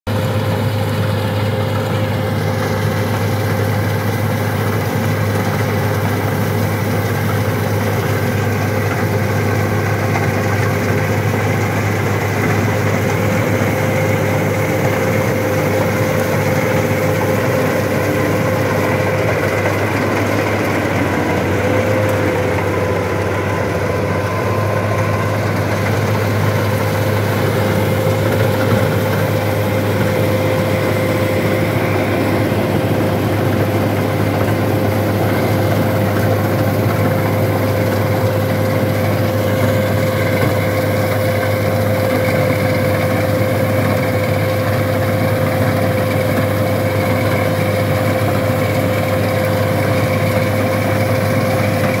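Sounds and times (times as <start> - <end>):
combine harvester engine drone: 0.1 - 52.0
high whine: 0.1 - 52.0.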